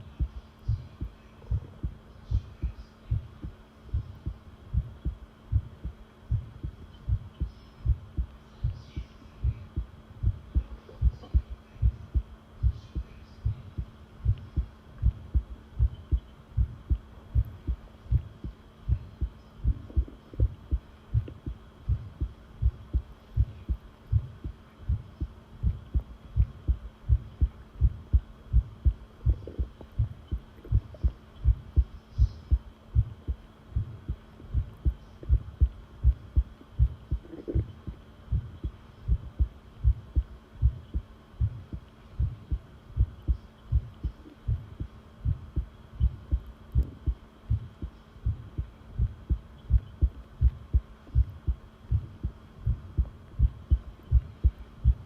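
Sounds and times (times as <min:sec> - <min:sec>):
faint steady hum: 0:00.0 - 0:55.0
heartbeat thumps: 0:00.0 - 0:55.0.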